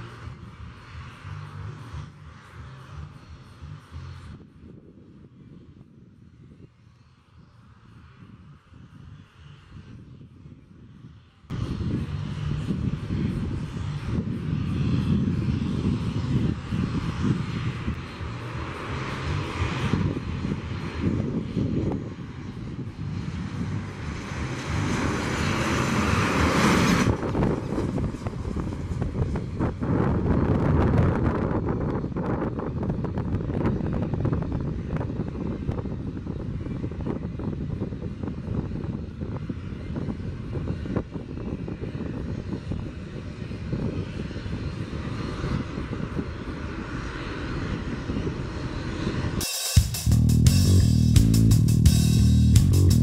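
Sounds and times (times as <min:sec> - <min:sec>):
jet engines on approach: 0:00.0 - 0:53.0.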